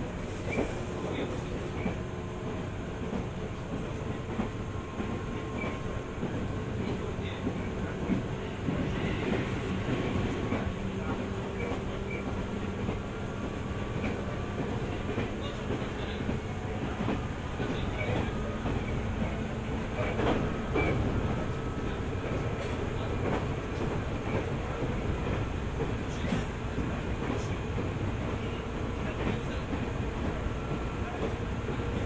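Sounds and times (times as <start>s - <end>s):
train wheels rumbling on rails: 0.0s - 32.0s
rail-joint clacks: 3.0s - 32.0s.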